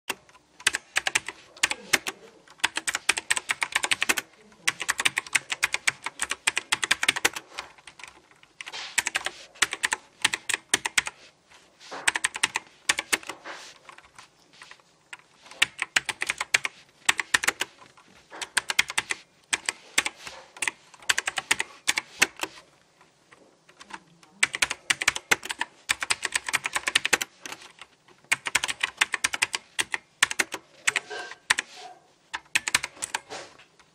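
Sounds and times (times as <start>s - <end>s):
mechanical keyboard typing: 0.1s - 11.2s, 12.0s - 22.6s, 23.6s - 31.7s, 32.3s - 33.9s.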